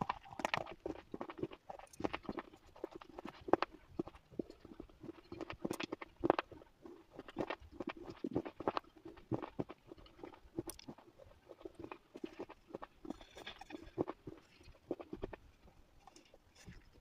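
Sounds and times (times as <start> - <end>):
pencils being chewed crunching: 0.0 - 16.9.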